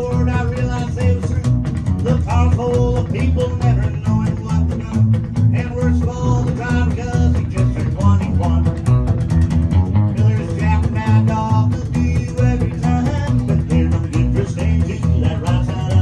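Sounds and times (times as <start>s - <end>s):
electric guitar melody: 0.0s - 16.0s
plucked double bass: 0.0s - 16.0s.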